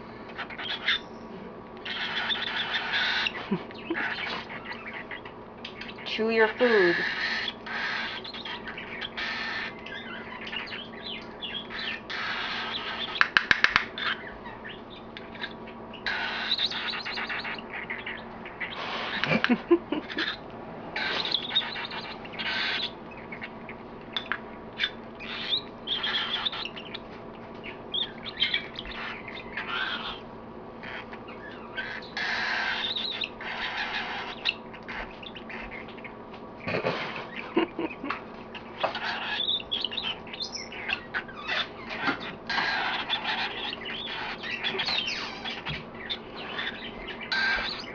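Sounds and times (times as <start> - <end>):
baby cockatiel begging calls: 0.4 - 1.1, 1.8 - 5.2, 5.9 - 13.2, 14.0 - 19.3, 21.0 - 23.5, 24.8 - 27.0, 27.9 - 30.2, 30.8 - 36.0, 38.5 - 47.9.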